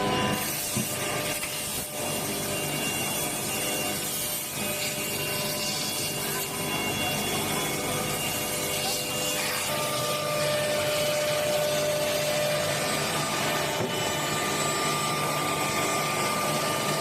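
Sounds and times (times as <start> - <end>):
router rushing noise and whine: 0.0 - 17.0.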